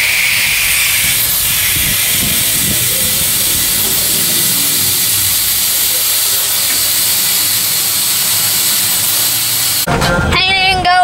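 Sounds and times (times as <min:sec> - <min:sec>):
compressed air hissing: 0:00.0 - 0:09.9.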